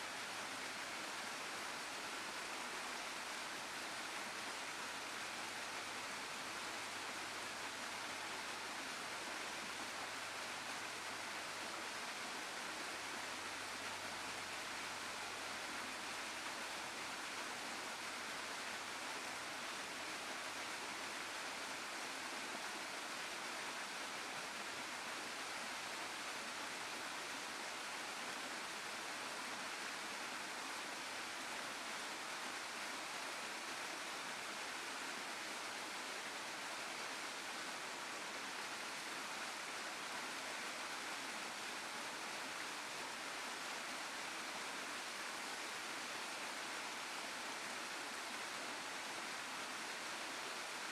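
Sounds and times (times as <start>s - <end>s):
waterfall and stream rushing: 0.0s - 50.9s.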